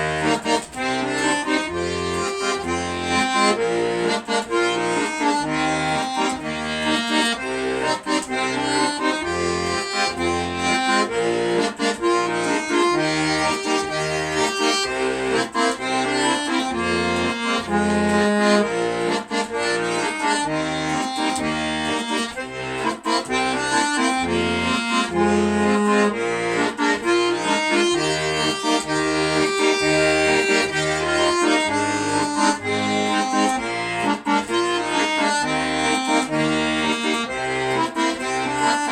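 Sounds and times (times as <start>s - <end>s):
accordion playing a tune: 0.0s - 38.9s.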